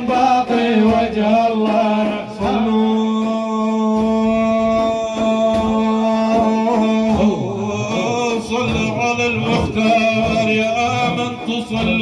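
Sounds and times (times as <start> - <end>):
drum beats: 0.0 - 12.0.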